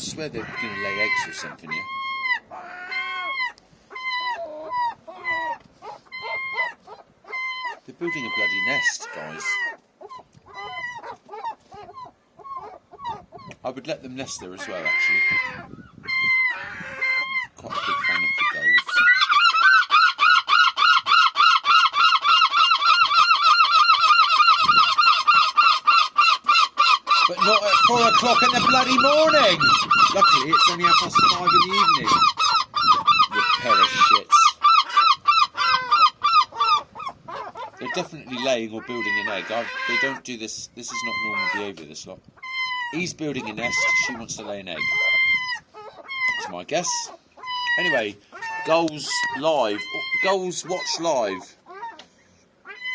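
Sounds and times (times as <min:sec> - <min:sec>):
gulls calling: 0:00.0 - 0:52.9.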